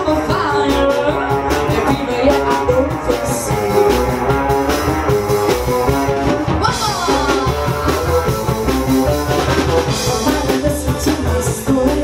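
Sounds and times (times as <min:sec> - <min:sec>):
drum kit beat: 0:00.0 - 0:12.0
live rock band playing: 0:00.0 - 0:12.0.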